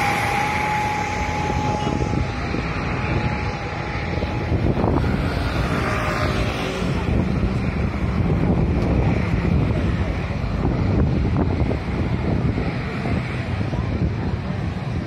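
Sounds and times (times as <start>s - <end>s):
jet airliner engines whine: 0.0s - 15.0s
wind buffeting microphone: 0.0s - 15.0s.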